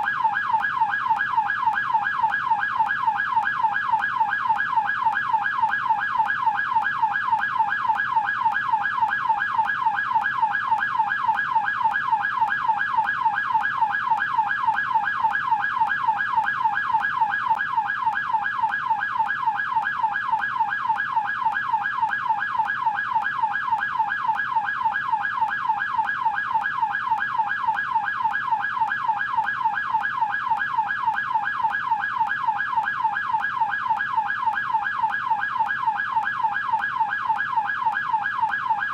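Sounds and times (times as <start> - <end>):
police siren yelping: 0.0 - 38.9.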